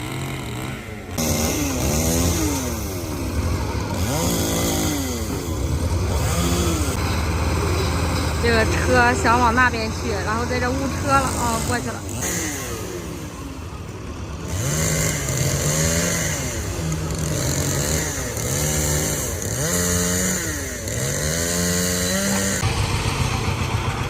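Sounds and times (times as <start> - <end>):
small engine revving: 0.0 - 24.0.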